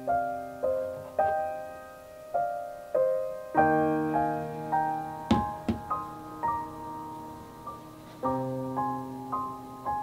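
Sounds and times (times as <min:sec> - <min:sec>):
slow solo piano music: 0:00.0 - 0:10.0.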